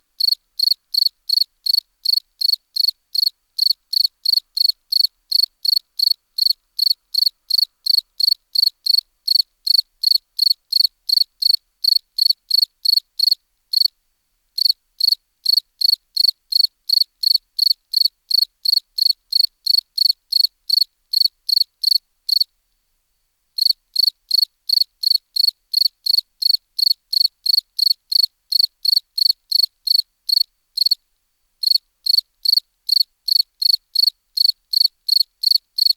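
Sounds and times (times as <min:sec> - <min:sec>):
cricket chirping: 0:00.2 - 0:13.9, 0:14.6 - 0:22.5, 0:23.6 - 0:31.0, 0:31.6 - 0:35.9.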